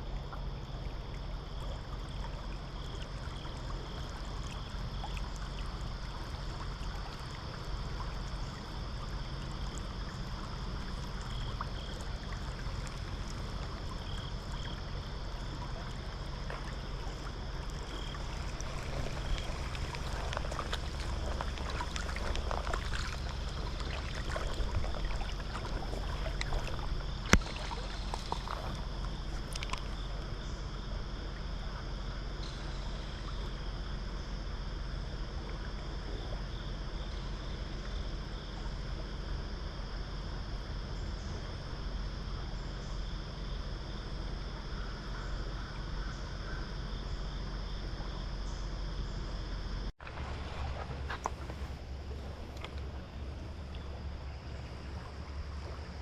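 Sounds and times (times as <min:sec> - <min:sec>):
low rumble and hiss: 0:00.0 - 0:56.0.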